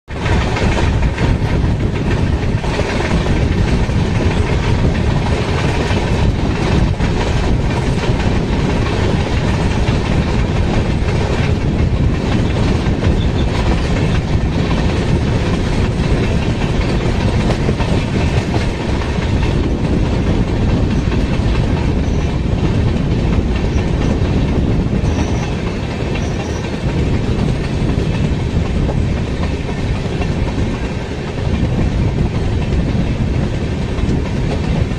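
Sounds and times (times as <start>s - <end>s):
clickety-clack of track: 0.0s - 34.9s
train wheels rushing on rails: 0.1s - 34.9s.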